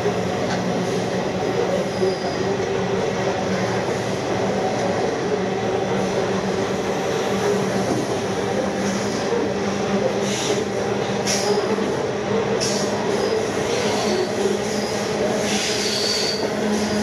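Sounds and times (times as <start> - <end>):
freight train wheels rumbling on rail: 0.0 - 17.0.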